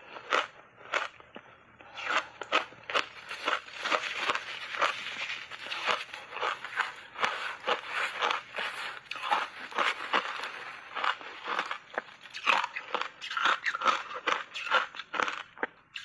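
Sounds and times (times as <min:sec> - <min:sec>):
crunching ice between teeth: 0:00.1 - 0:16.0.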